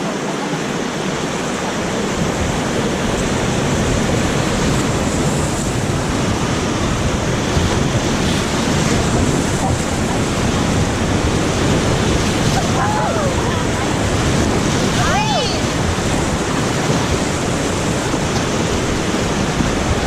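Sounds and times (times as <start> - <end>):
whitewater rapids rushing: 0.0 - 20.0
wind buffeting microphone: 0.7 - 20.0.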